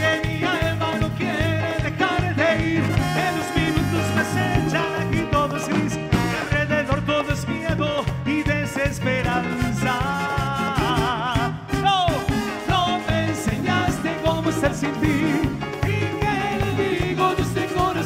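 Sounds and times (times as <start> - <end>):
band playing live: 0.0 - 18.0.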